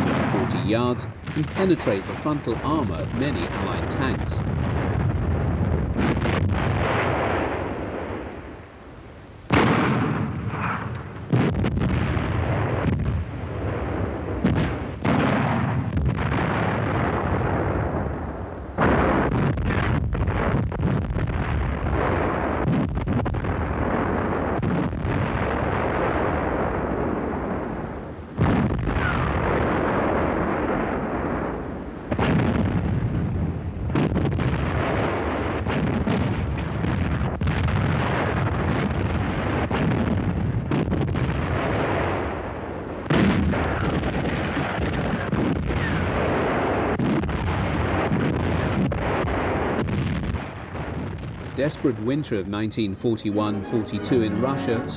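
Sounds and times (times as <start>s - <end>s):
artillery firing: 0.0s - 54.9s.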